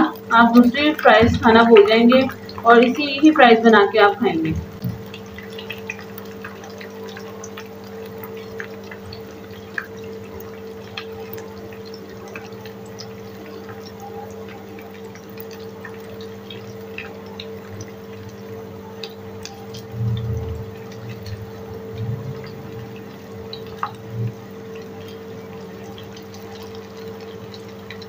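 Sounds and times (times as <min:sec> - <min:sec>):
oil popping and crackling: 0:00.0 - 0:28.0
steady low hum: 0:00.0 - 0:28.0.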